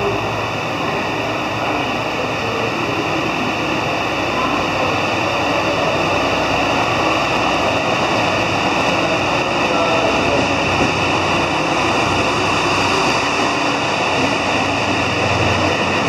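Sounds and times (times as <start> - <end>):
diesel train accelerating: 0.0 - 16.0.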